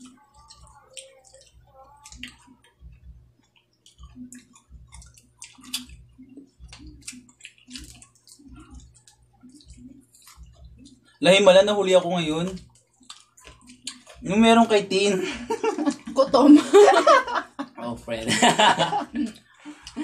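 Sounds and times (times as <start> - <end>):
people chewing: 0.0 - 14.6, 15.2 - 17.6, 18.2 - 20.0.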